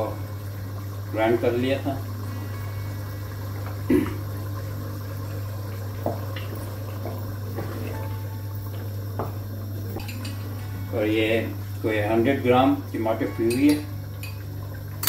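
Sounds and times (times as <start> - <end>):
low hum: 0.0 - 15.0
pot bubbling: 0.0 - 15.0.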